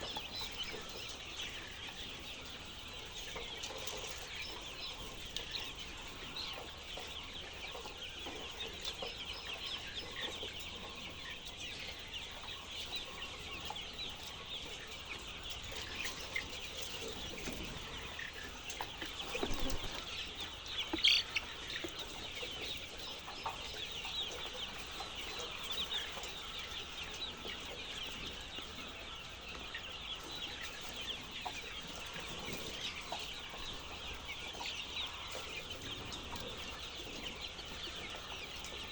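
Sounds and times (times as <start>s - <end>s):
flock of chickens calling: 0.0s - 38.9s.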